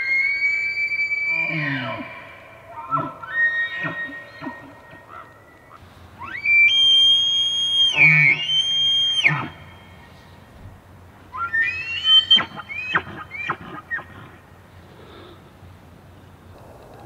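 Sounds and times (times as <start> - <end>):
elk bugling: 0.0 - 10.2, 11.3 - 15.4.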